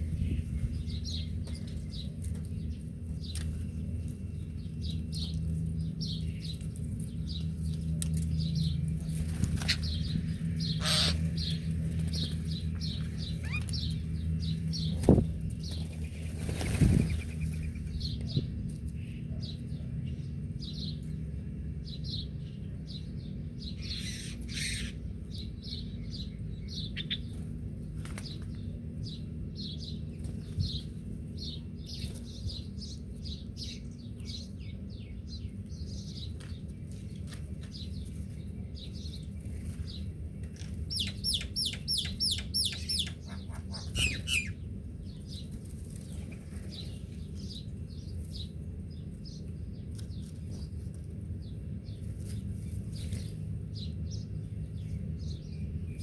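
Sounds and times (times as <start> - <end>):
low hum: 0.0 - 56.0
small birds chirping: 0.0 - 56.0.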